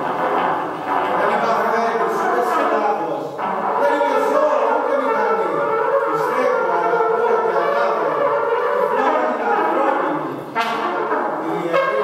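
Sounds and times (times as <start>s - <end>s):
trumpet playing long held notes: 0.0s - 12.0s.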